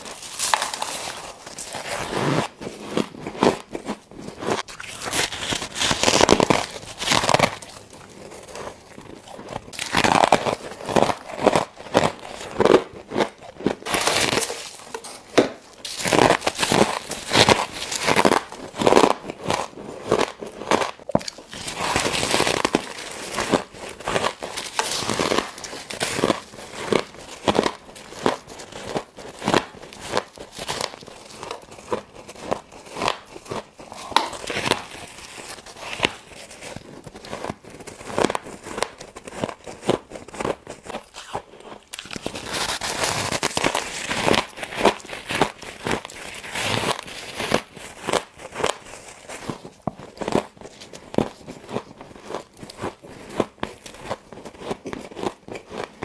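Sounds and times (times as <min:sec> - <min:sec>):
frost being chewed: 0:00.0 - 0:56.0.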